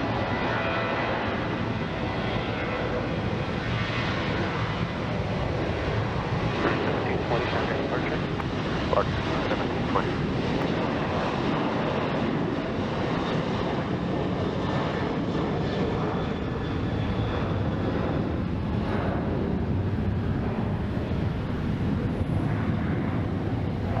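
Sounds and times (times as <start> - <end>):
jet airliner engines running: 0.0 - 24.0.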